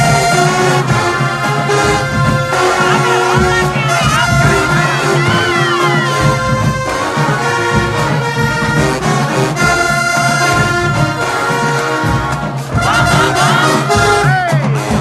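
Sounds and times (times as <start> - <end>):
brass horns holding notes: 0.0 - 15.0
steady drum beat: 0.0 - 15.0.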